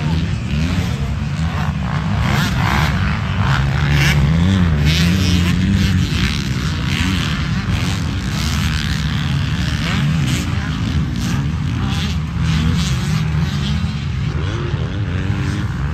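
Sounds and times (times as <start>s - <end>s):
dirt bike engines revving: 0.0s - 15.9s.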